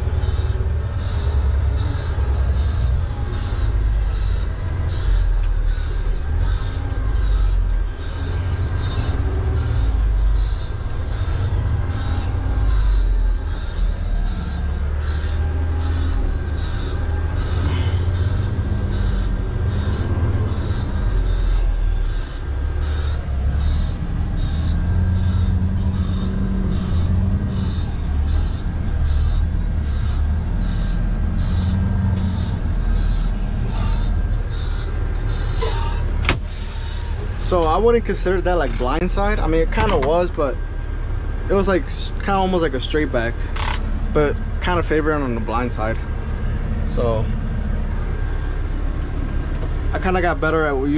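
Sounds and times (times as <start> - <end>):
reverse alarm beeping: 0.0 - 50.9
truck diesel engine rumbling: 0.0 - 50.9.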